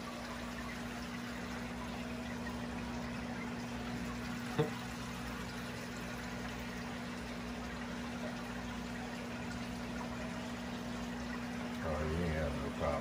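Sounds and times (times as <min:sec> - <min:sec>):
aquarium pump humming: 0:00.0 - 0:13.0
water trickling: 0:00.0 - 0:13.0.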